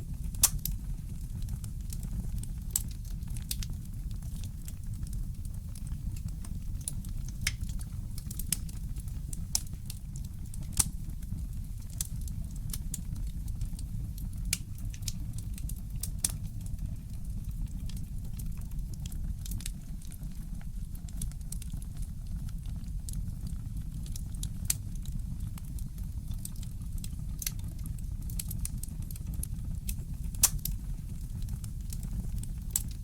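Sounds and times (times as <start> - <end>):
fireplace crackling: 0.0 - 20.2, 26.4 - 33.0.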